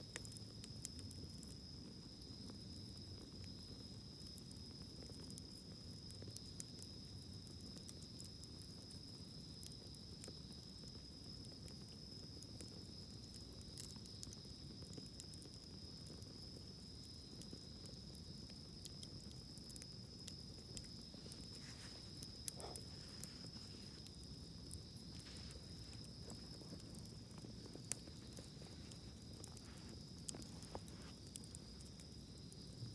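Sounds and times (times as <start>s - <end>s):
campfire crackling: 0.0s - 32.9s.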